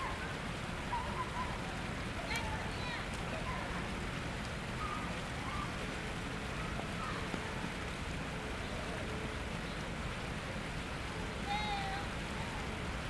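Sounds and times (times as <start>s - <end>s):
outdoor ambient hiss: 0.0s - 13.0s.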